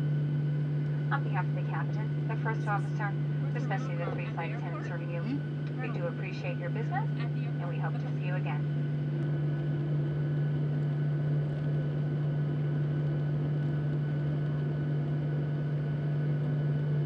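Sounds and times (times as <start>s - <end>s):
aircraft cabin hum: 0.0s - 17.0s.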